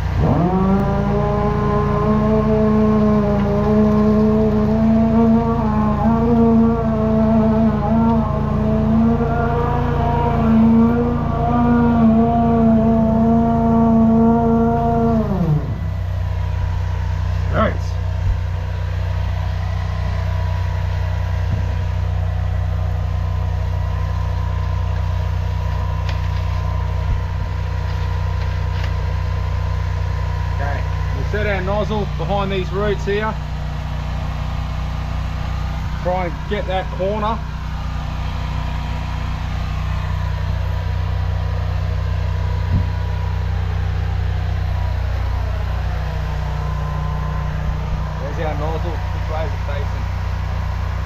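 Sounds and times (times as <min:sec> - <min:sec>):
engine hum: 0:00.0 - 0:51.0
pump whine: 0:00.0 - 0:51.0
water nozzle blasting: 0:00.0 - 0:51.0.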